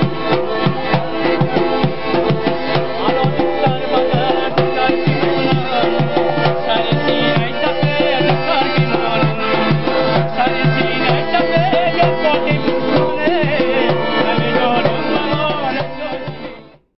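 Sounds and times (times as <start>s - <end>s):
winding melody: 0.0s - 16.6s.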